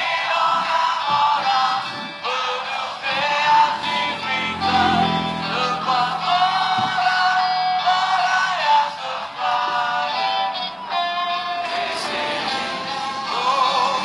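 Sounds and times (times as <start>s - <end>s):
background music: 0.0s - 14.0s
person singing long notes: 0.0s - 14.0s.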